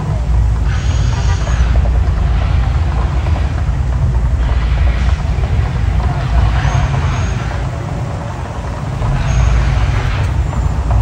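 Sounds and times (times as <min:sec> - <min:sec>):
crowd chatter: 0:00.0 - 0:11.0
deep uneven rumble: 0:00.0 - 0:11.0
hissing fire jets: 0:00.0 - 0:11.0
street traffic: 0:00.0 - 0:11.0.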